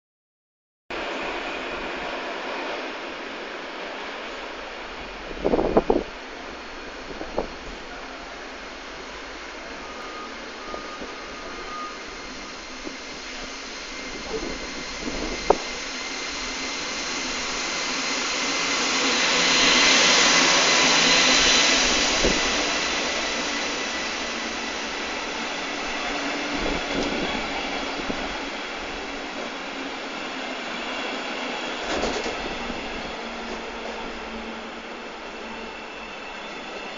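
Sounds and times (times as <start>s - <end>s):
train rolling past: 0.9s - 36.9s
faint high whine: 3.5s - 36.9s.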